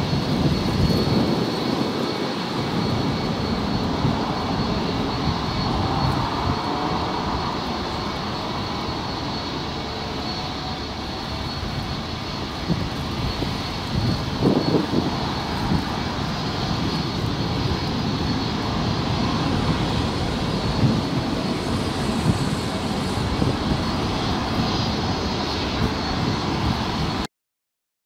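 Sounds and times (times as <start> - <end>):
jet engines rumbling: 0.0 - 27.3.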